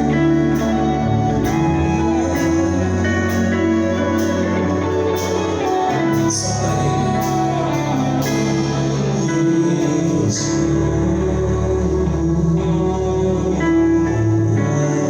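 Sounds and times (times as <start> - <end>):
bass notes: 0.0 - 15.0
guitar: 0.0 - 15.0
live band music: 0.0 - 15.0.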